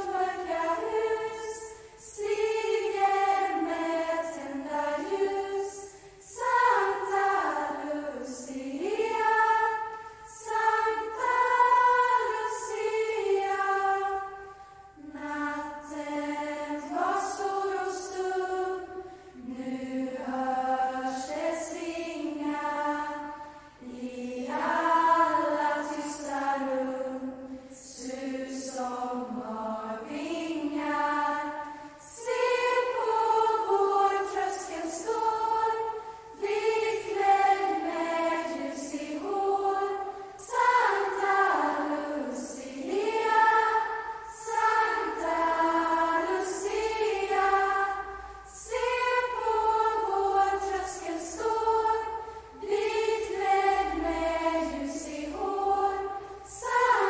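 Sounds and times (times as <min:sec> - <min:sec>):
girls choir singing unaccompanied: 0:00.0 - 0:57.0.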